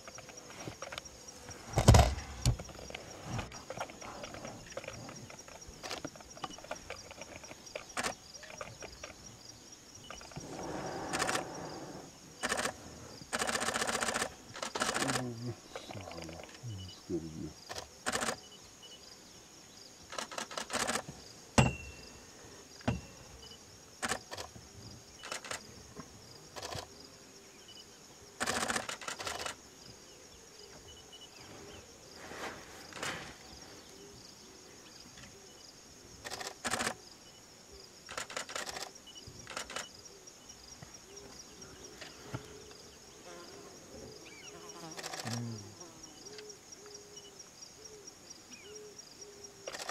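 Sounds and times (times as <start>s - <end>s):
high insect drone: 0.0s - 49.9s.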